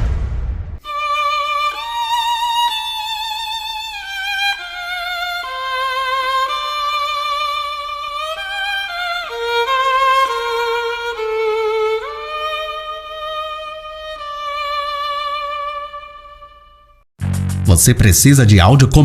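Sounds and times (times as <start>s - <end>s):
slow sad violin melody: 0.8s - 17.1s.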